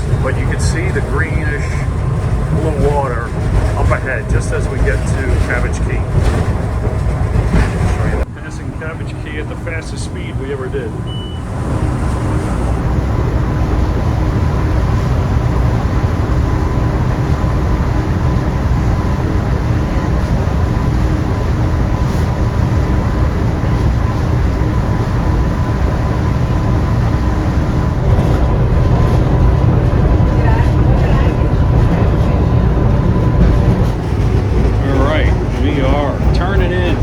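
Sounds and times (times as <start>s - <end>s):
outboard motors droning: 0.0s - 37.0s
water rushing along hull: 0.0s - 37.0s.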